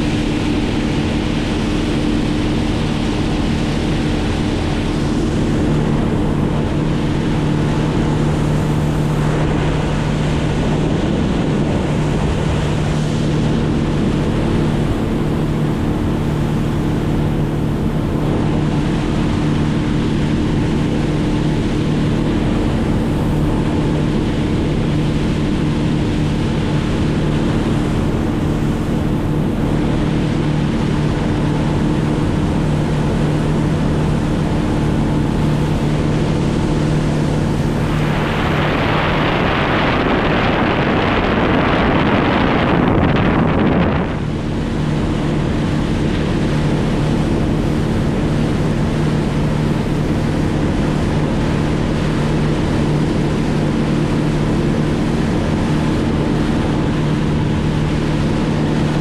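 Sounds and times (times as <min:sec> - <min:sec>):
motor running steadily: 0:00.0 - 0:59.0
wind on microphone: 0:00.0 - 0:59.0.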